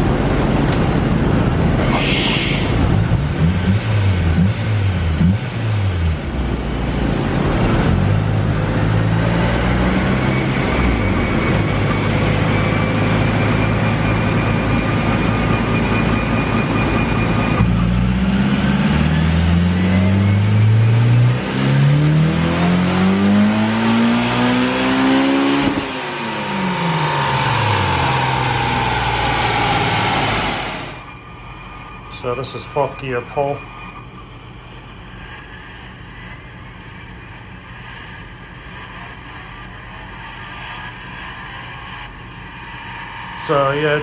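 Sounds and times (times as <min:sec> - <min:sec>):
car engine at full throttle: 0:00.0 - 0:44.0.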